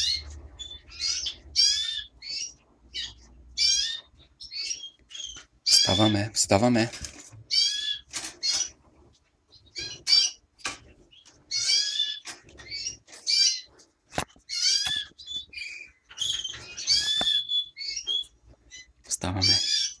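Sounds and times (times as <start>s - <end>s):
finch chirping: 0.0s - 6.8s, 7.4s - 8.8s, 9.5s - 20.0s.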